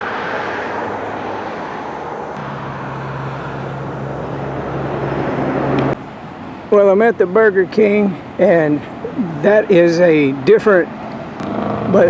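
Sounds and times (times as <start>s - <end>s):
low engine hum: 0.0s - 12.0s
road noise: 0.0s - 12.0s.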